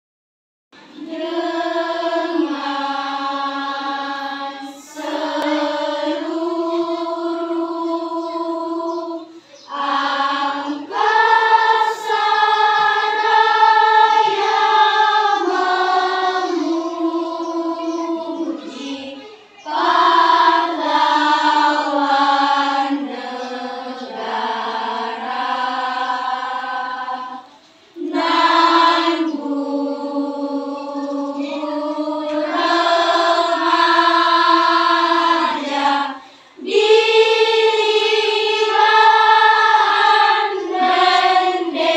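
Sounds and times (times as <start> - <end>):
choir singing long notes: 0.8 - 41.9.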